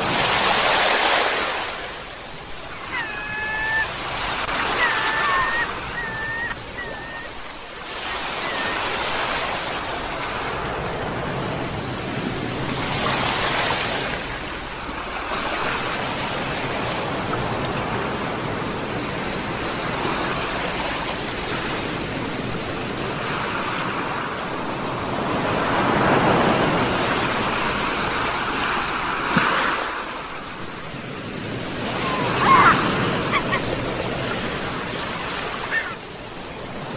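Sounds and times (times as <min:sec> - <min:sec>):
sea waves breaking on shore: 0:00.0 - 0:36.9.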